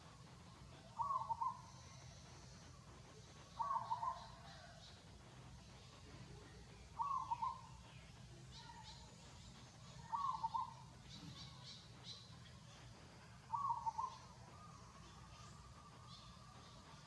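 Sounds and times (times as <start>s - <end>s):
faint high chirps: 0.0s - 17.0s.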